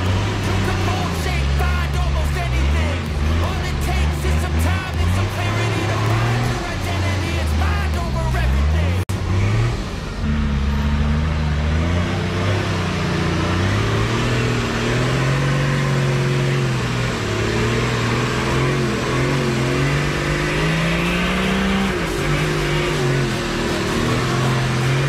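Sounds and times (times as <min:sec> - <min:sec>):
engine revving under load: 0:00.0 - 0:25.0.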